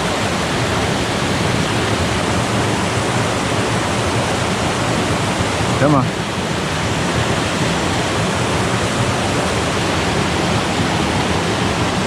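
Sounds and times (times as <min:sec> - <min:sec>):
water rushing over waterfall: 0:00.0 - 0:12.0.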